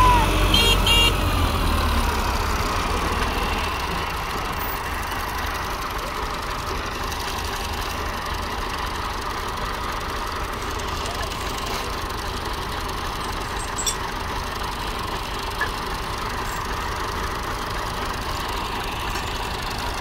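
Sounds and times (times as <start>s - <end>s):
tractor diesel engines straining: 0.0s - 20.0s.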